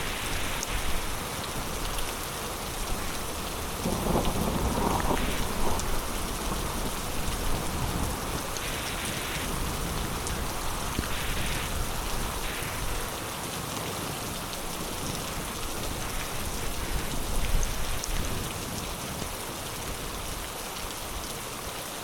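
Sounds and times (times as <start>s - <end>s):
heavy rain falling: 0.0s - 22.0s
raindrops ticking on surfaces: 0.0s - 22.0s.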